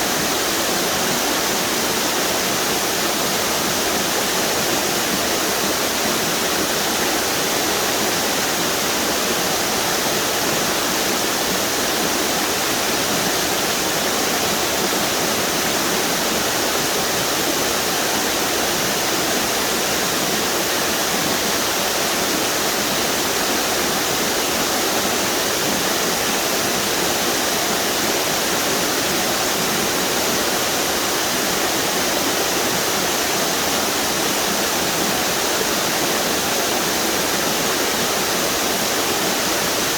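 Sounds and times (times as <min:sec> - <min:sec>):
water rushing over small waterfalls: 0:00.0 - 0:39.9.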